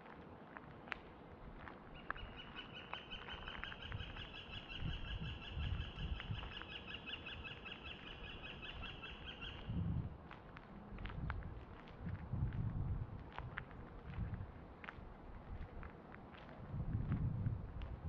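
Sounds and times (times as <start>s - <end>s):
soft footsteps on pavement: 0.0s - 18.0s.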